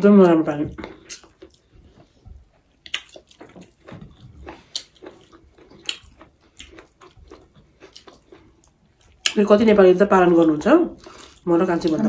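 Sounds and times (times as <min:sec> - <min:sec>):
person chewing food: 0:00.7 - 0:09.8, 0:10.4 - 0:12.0.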